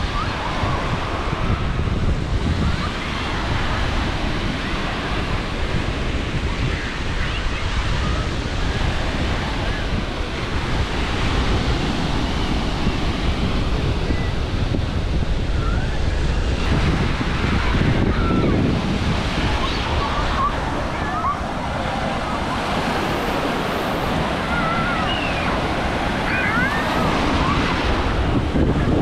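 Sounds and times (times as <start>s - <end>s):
sea waves breaking on beach: 0.0s - 29.0s
wind buffeting microphone: 0.0s - 29.0s.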